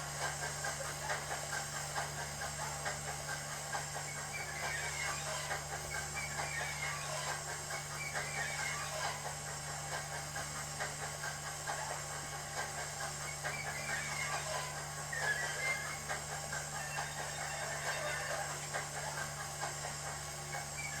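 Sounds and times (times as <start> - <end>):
steam hiss: 0.0 - 21.0
steam locomotive chuffs: 0.0 - 21.0.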